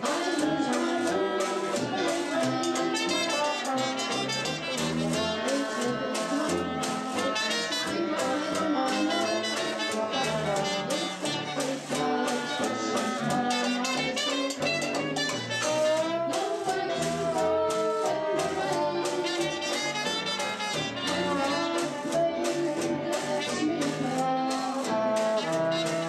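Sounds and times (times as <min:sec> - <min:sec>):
jazz band playing: 0:00.0 - 0:26.0.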